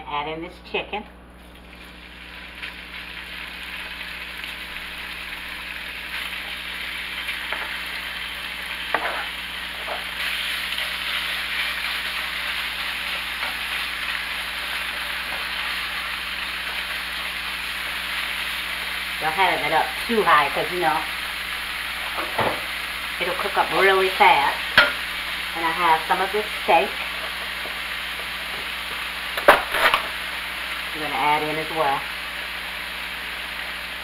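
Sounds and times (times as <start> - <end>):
chicken sizzling in hot oil: 1.4 - 34.0.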